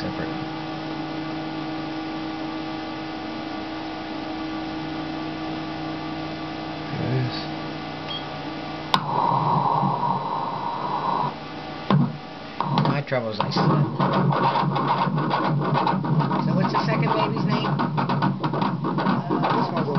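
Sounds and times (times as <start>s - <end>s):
steady electrical hum: 0.0s - 19.9s.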